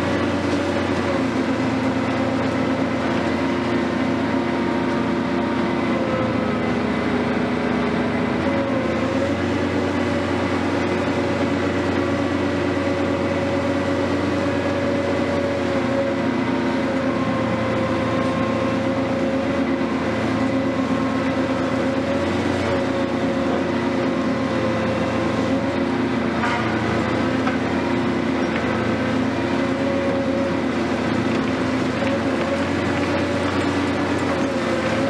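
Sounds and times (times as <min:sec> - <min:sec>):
excavator engine droning: 0:00.0 - 0:35.0.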